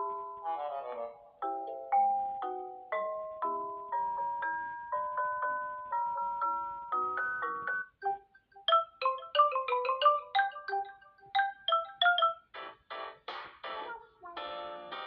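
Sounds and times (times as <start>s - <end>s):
marimba-like ringtone melody: 0.0s - 13.2s.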